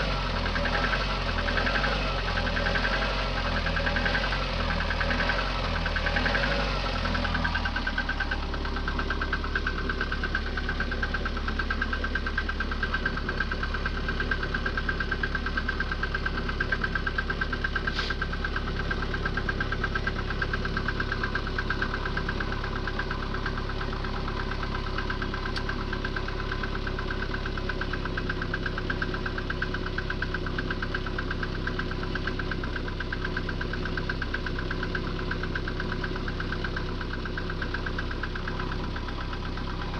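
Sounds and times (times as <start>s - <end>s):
car engine idling with knocking: 0.0s - 39.9s.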